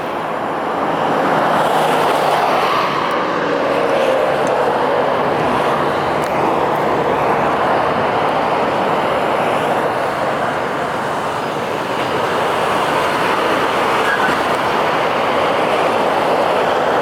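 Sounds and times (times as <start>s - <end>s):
light rail train running: 0.0s - 17.0s.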